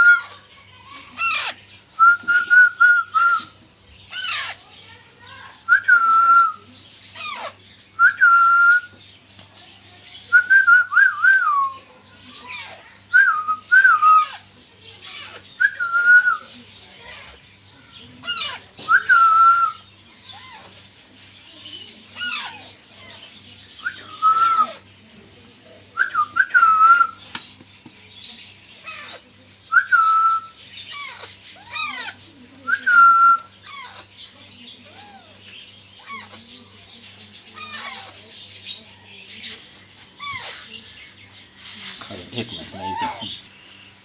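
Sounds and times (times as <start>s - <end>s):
parakeet chicks whistling calls: 0.0s - 43.9s.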